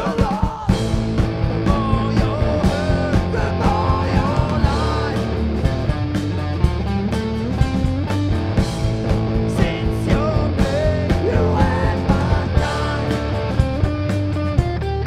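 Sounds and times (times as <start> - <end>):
bass guitar: 0.0 - 15.0
drum kit beat: 0.0 - 15.0
distorted electric guitar: 0.6 - 15.0.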